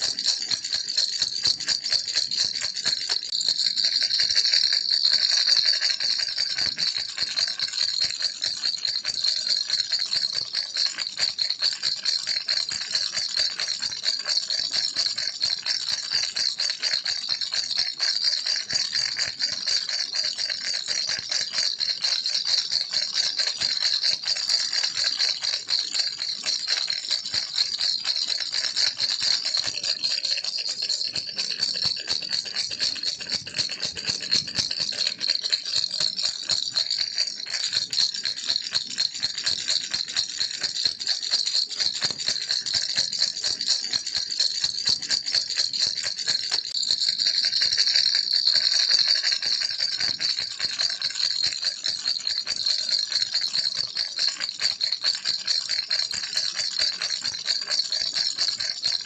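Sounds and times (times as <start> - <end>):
toy rattle shaken: 0.0 - 58.9.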